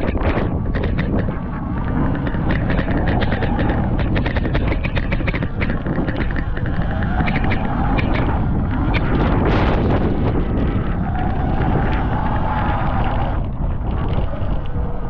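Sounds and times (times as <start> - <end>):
bike knocking and clattering: 0.0 - 15.0
wind buffeting microphone: 0.0 - 15.0.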